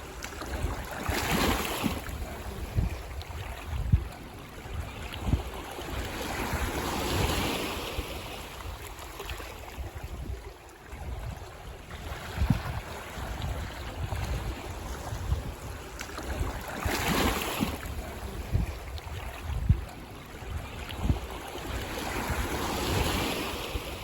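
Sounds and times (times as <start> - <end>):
sea waves washing on beach: 0.0 - 24.0
wind buffeting microphone: 0.0 - 24.0.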